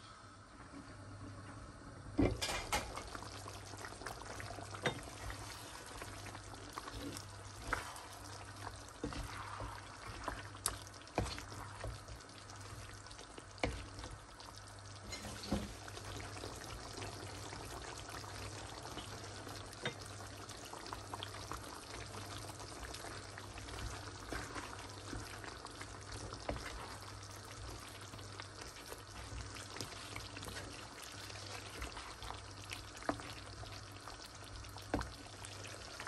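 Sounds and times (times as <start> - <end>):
curry sizzling in a pan: 2.3 - 36.0.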